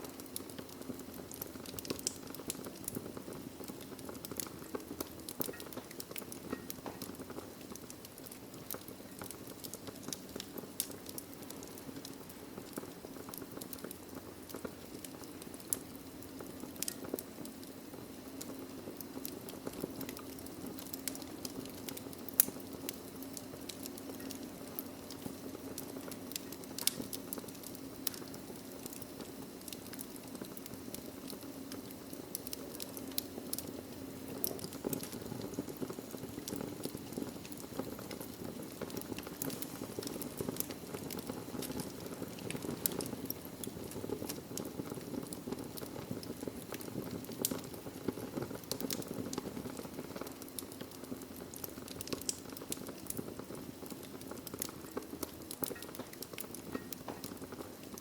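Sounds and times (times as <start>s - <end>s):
fire burning: 0.0s - 58.0s
wood crackling and popping: 0.0s - 58.0s.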